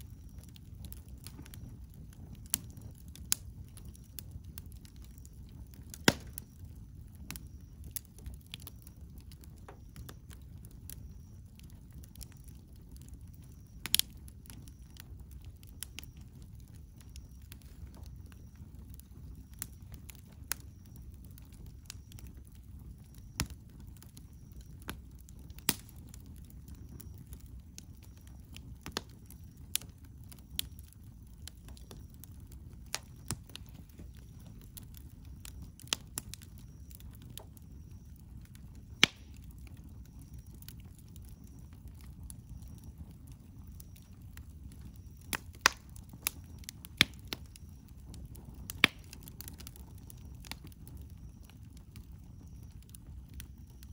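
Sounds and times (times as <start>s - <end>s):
campfire crackling and popping: 0.0s - 53.9s
low fire rumble: 0.0s - 53.9s.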